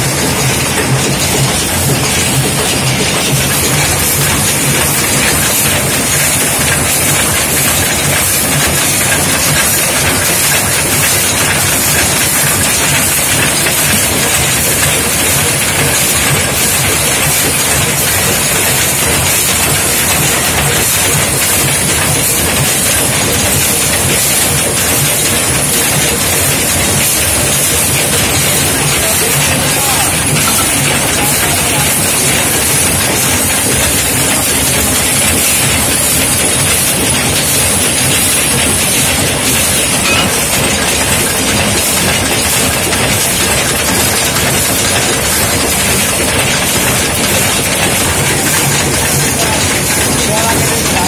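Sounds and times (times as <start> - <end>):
machine clattering: 0.0 - 51.0.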